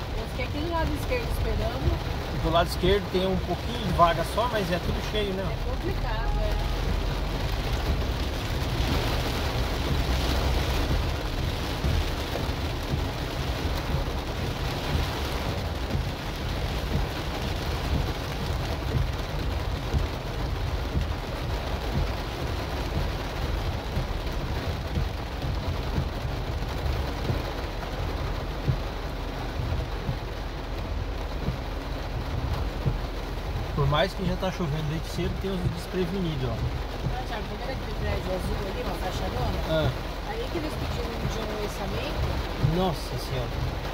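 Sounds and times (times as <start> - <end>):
low steady rumble: 0.0 - 43.9
rain drumming on car roof: 0.0 - 43.9.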